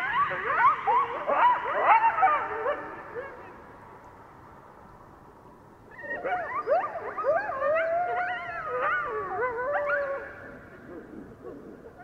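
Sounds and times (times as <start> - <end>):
coyotes yipping and howling: 0.0 - 3.7, 5.9 - 12.0.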